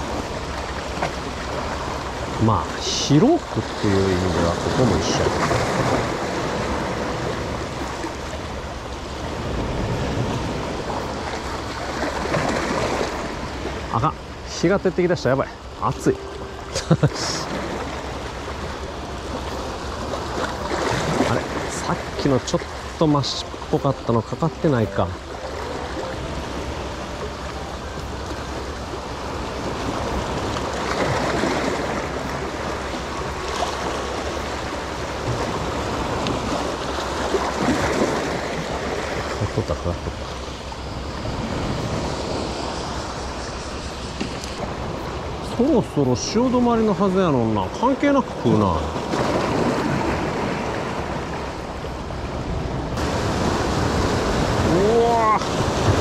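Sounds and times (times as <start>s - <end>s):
waves breaking on rocks: 0.0s - 56.0s.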